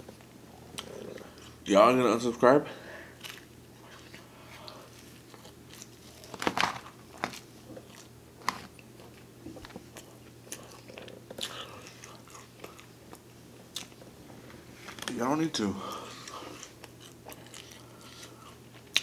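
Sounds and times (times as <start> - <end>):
chewing with crunches: 0.0 - 1.7, 3.1 - 14.2, 15.9 - 19.0.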